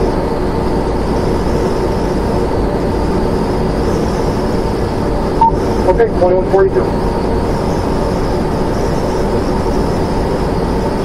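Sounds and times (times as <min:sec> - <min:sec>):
engine and road noise in cab: 0:00.0 - 0:11.0.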